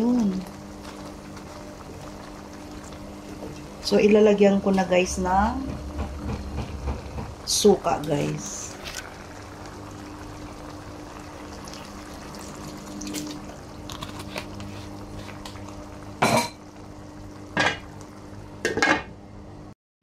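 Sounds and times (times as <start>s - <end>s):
sauce bubbling in a pan: 0.0s - 4.5s, 5.8s - 18.6s.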